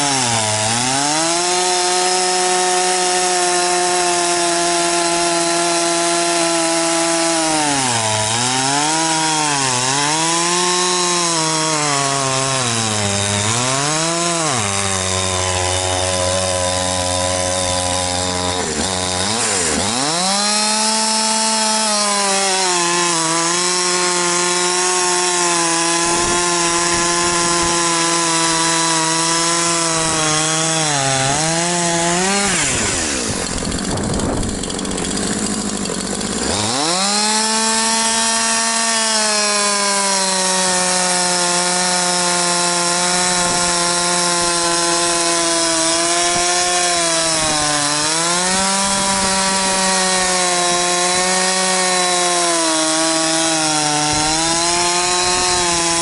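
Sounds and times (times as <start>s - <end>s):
chainsaw sawing a log: 0.0s - 56.0s.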